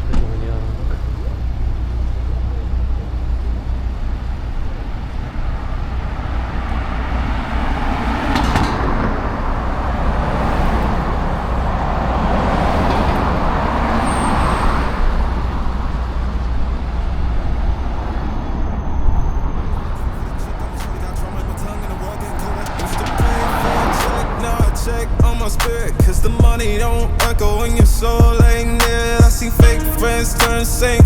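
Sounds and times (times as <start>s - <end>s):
traffic rumble: 0.0s - 31.0s
vehicle passing: 0.0s - 31.0s.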